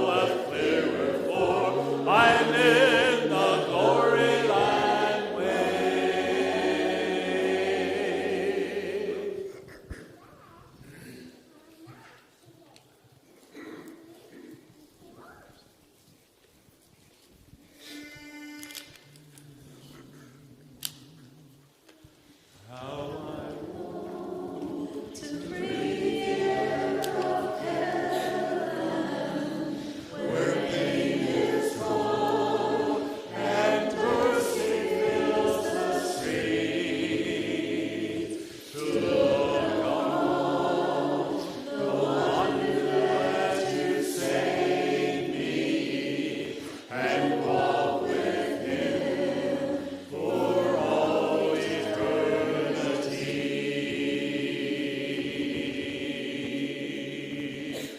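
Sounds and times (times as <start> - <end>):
group singing worship song: 0.0 - 9.9, 18.8 - 57.9.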